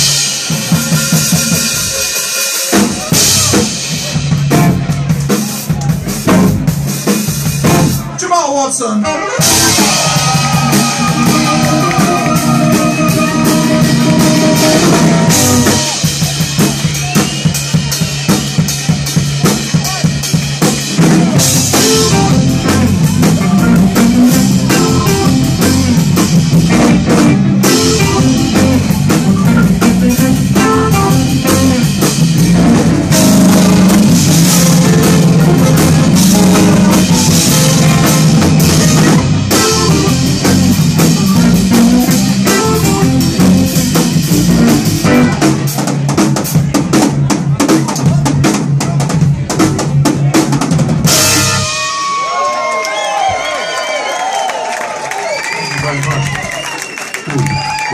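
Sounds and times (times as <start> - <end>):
funk jazz band playing: 0.0 - 53.3.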